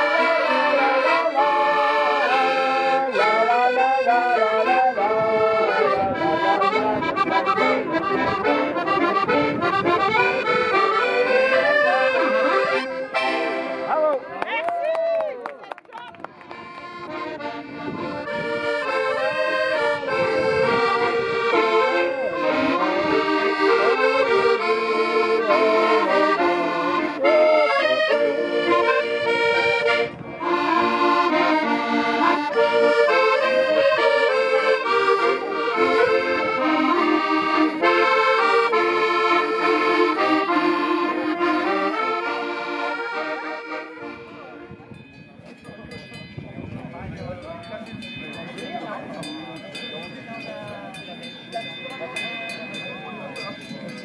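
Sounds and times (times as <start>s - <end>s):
accordions playing chords: 0.0s - 14.4s, 16.2s - 46.0s.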